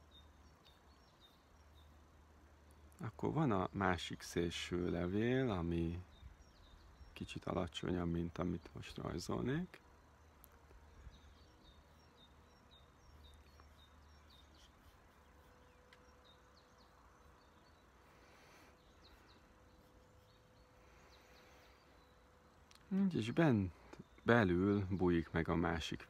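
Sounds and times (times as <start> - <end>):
distant small birds chirping: 0.0 - 26.0
faint outdoor ambience: 0.0 - 26.0.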